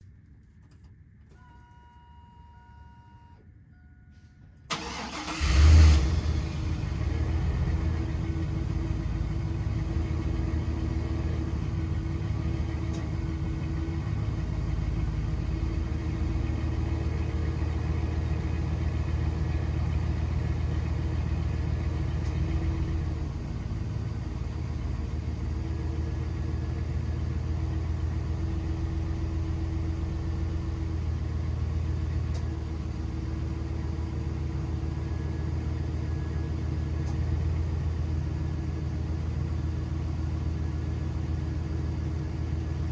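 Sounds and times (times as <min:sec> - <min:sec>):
pickup engine idling: 0:04.7 - 0:42.9.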